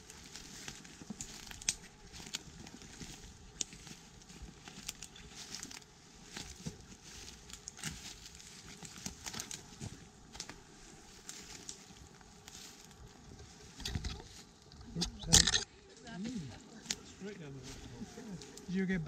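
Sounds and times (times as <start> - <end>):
twigs snapping: 0.0 - 15.7
twigs and leaves crackling underfoot: 0.0 - 19.0.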